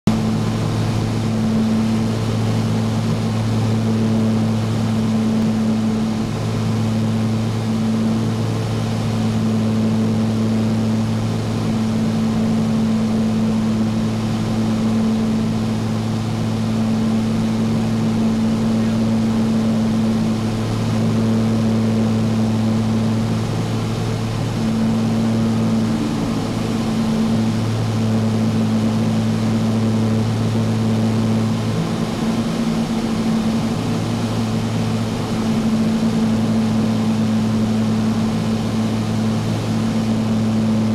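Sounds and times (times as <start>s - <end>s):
airplane engines droning in cabin: 0.1s - 40.9s.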